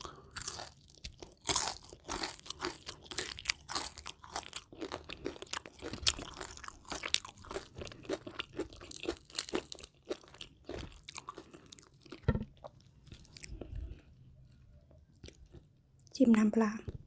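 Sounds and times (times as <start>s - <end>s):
chewing crunchy food: 0.0s - 16.2s.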